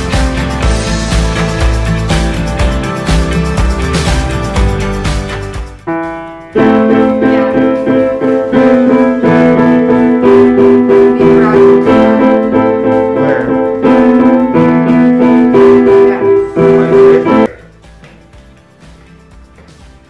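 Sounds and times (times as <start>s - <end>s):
piano chords: 0.0s - 17.8s.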